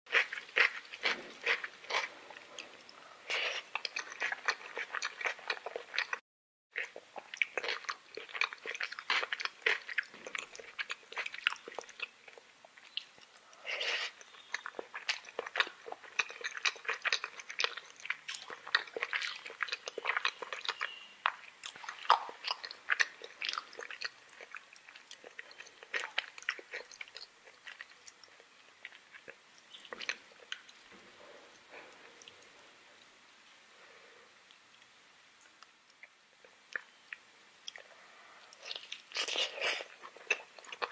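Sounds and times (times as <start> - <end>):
chewing food: 0.1 - 33.1, 34.4 - 40.9.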